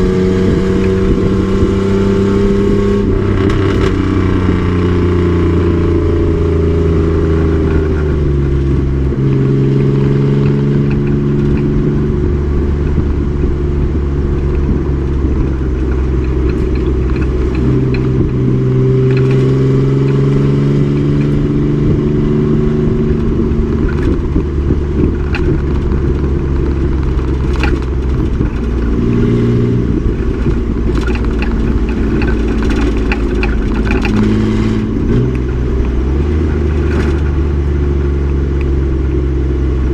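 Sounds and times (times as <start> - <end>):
truck engine revving: 0.0 - 39.9
sharp clicks and rattles: 2.5 - 39.9.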